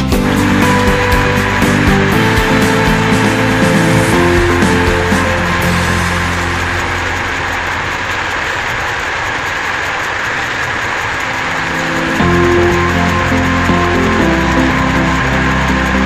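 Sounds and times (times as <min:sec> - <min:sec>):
bike tyre whirring on trainer roller: 0:00.0 - 0:16.0
low hum: 0:00.0 - 0:16.0.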